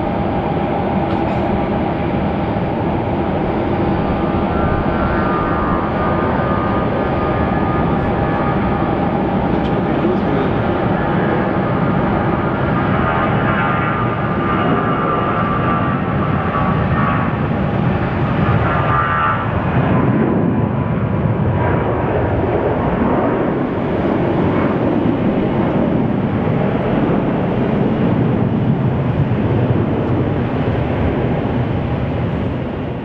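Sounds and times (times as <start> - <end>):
high fan whine: 0.0 - 33.0
jet engines roaring: 0.0 - 33.0.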